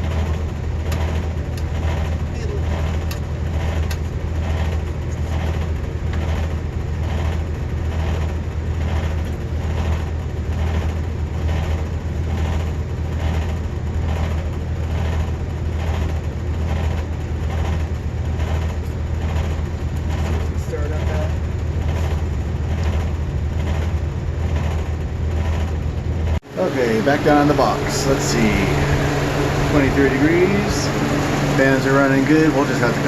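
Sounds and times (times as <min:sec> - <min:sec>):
condensing unit humming and pulsing: 0:00.0 - 0:33.0.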